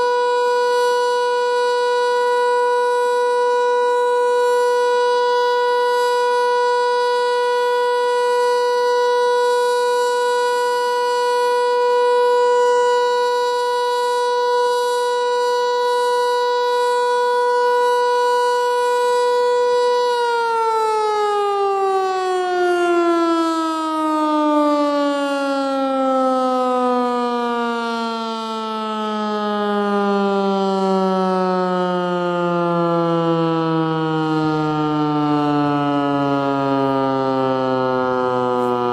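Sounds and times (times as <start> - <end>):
siren winding down: 0.0 - 38.9
warning siren steady tone: 0.0 - 38.9.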